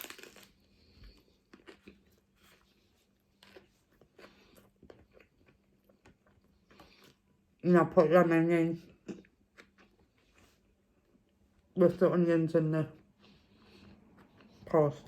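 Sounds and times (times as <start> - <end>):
person chewing food: 0.0 - 7.6, 8.9 - 11.7, 13.0 - 15.0.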